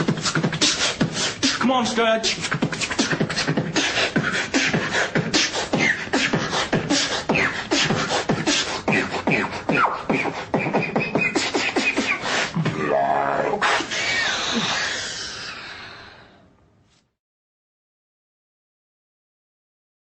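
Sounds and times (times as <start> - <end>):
person beatboxing: 0.0 - 16.2.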